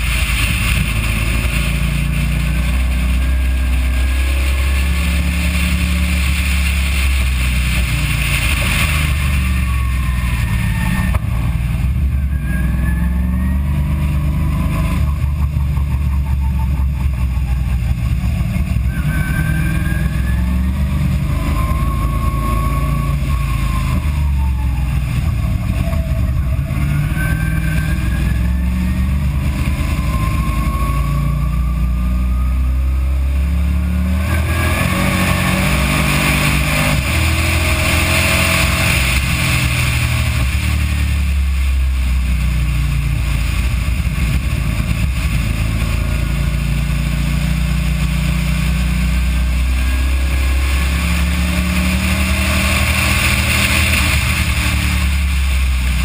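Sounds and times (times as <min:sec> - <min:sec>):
heavy low rumble: 0:00.0 - 0:56.0
race car engine accelerating: 0:00.0 - 0:56.0.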